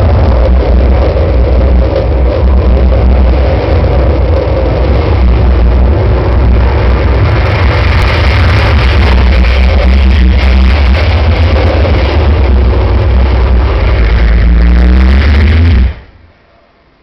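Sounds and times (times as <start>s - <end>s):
deep rumble: 0.0s - 17.0s
rushing noise: 0.0s - 17.0s.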